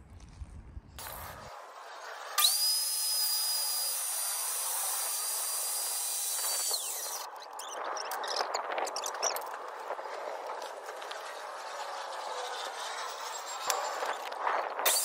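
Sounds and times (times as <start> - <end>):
circular saw whining: 1.0 - 9.3, 10.3 - 15.0.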